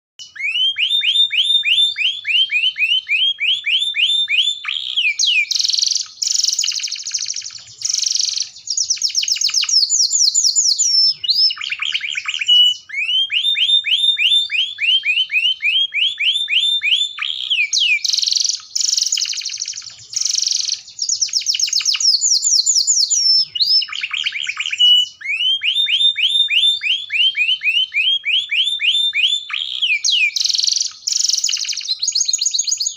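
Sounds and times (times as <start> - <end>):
canary singing in trills: 0.2 - 32.9.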